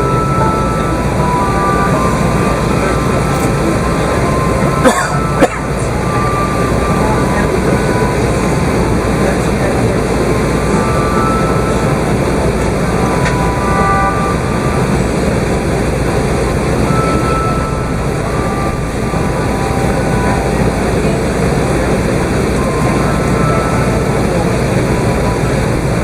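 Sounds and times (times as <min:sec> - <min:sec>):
air conditioning rush: 0:00.0 - 0:26.0
airplane cabin engine rumble: 0:00.0 - 0:26.0.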